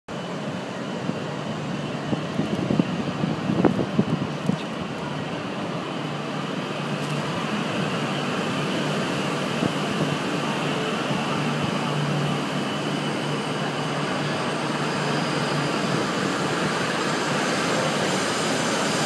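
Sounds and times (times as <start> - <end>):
train equipment hum: 0.1 - 19.0.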